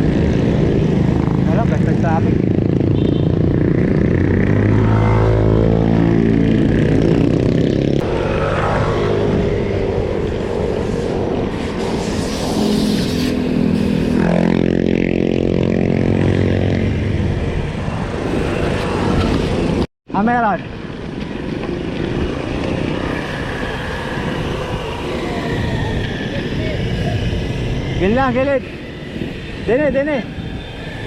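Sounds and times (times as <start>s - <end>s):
vehicles passing close by: 0.0s - 31.0s.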